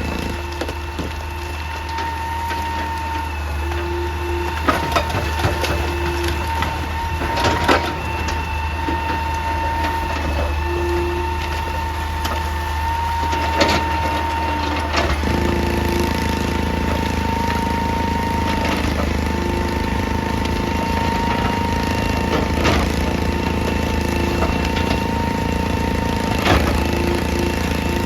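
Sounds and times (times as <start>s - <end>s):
excavator diesel engine: 0.0s - 28.0s
high whine: 0.0s - 28.0s.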